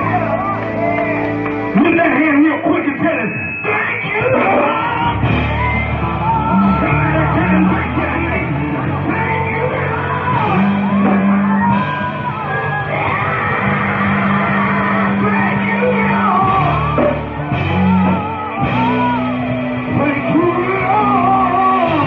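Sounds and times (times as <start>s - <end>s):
electric guitar: 0.0s - 22.0s
keyboard: 0.0s - 22.0s
person singing: 3.6s - 22.0s.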